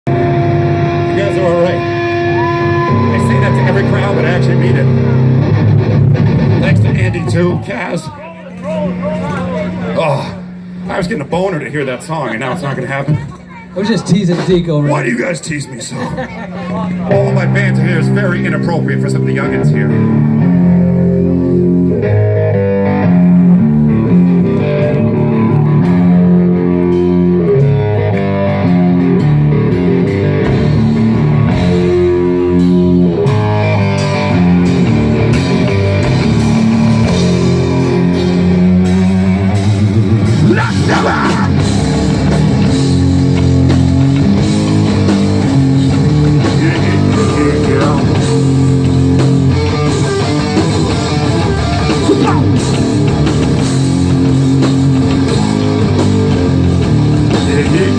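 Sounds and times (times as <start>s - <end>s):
electric guitar and bass riff: 0.0s - 11.5s, 16.7s - 57.9s
drums: 0.1s - 57.9s.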